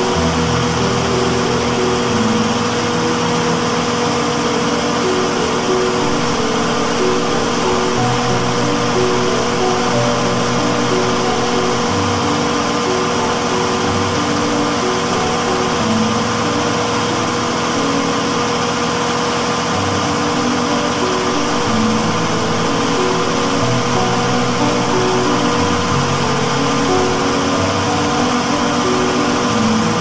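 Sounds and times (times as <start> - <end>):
generator engine running: 0.0 - 30.0.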